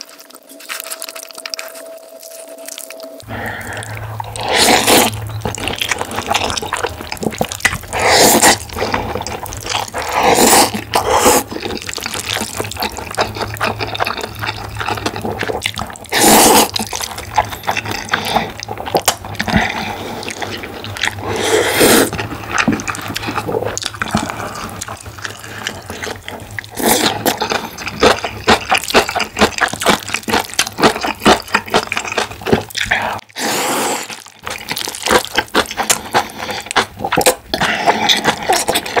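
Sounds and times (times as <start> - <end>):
wet squelching food sounds: 0.0 - 39.0.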